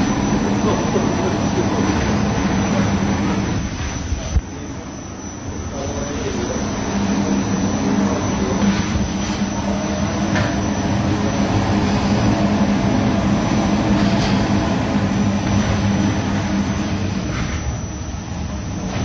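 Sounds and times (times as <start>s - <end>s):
industrial machinery humming: 0.0s - 19.0s.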